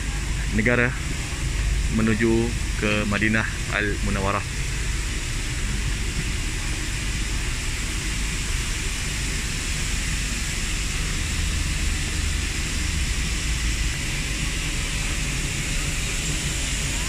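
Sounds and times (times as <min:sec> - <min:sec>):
airliner air systems hissing: 0:00.0 - 0:17.0.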